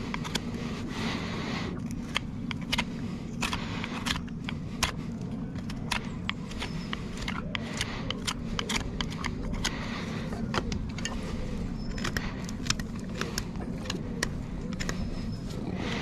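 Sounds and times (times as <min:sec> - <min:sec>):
hoof tools clicking and snipping: 0:00.0 - 0:00.9, 0:01.7 - 0:16.0
steady low hum: 0:00.0 - 0:16.0.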